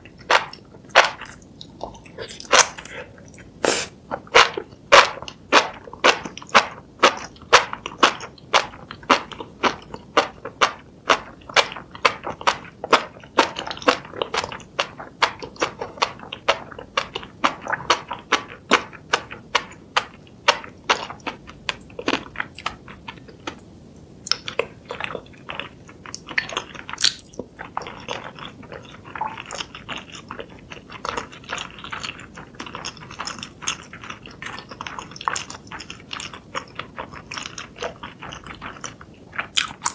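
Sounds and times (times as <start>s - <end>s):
close chewing of food: 0.0s - 39.9s.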